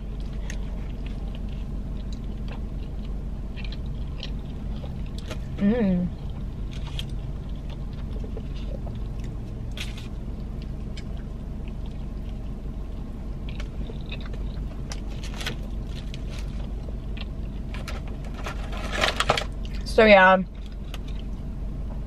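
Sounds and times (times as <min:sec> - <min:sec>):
person chewing: 0:00.0 - 0:18.3
steady low hum: 0:00.0 - 0:22.0.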